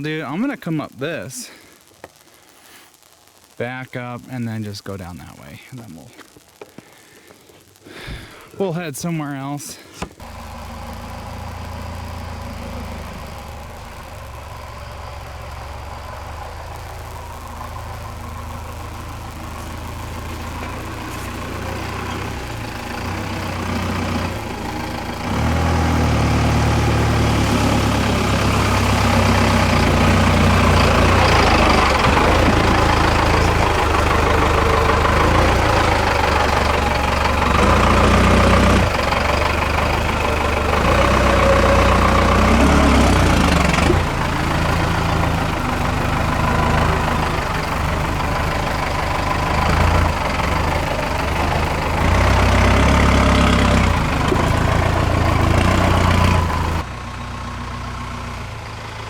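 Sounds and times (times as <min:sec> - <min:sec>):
diesel truck engine running: 0:10.2 - 0:59.0.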